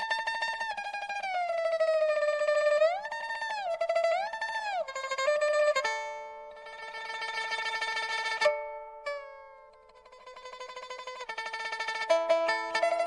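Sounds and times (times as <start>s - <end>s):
plucked zither melody: 0.0s - 13.0s.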